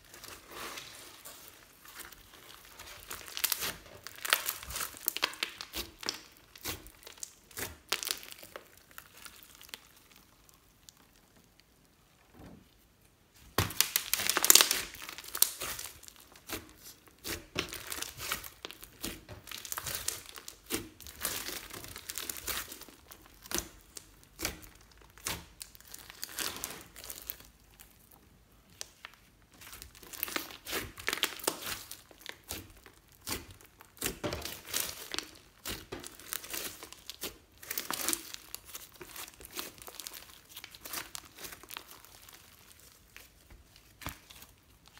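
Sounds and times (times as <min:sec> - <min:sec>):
slime crackling and popping: 0:00.0 - 0:12.2, 0:13.3 - 0:44.9.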